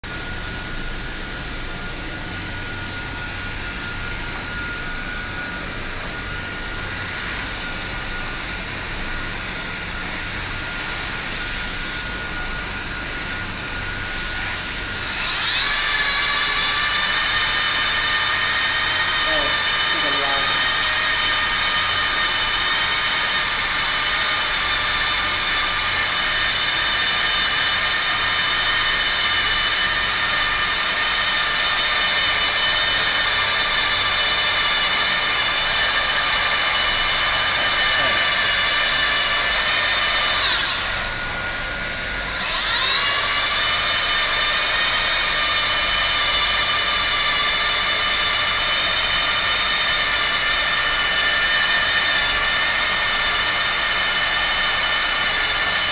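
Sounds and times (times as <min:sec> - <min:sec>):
hot-air gun blower whine: 0:00.0 - 0:55.9.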